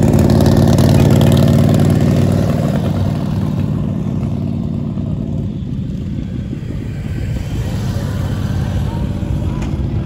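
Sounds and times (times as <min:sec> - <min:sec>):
motorcycle engine passing: 0:00.0 - 0:10.0.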